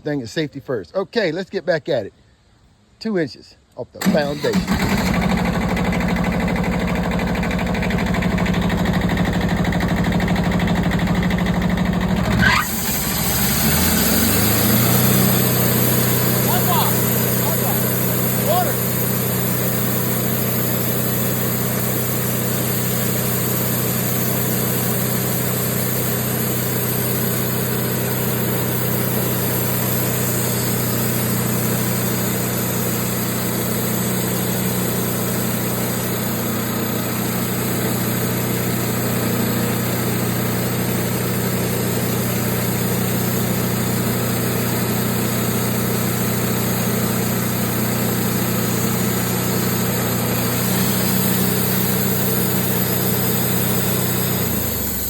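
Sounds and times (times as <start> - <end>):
bandsaw mill motor humming: 4.5 - 55.0.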